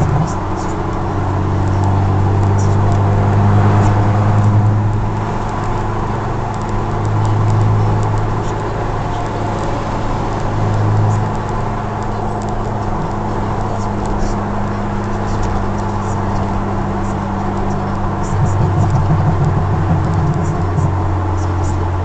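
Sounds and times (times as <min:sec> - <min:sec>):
car exhaust drone from inside cabin: 0:00.0 - 0:22.0.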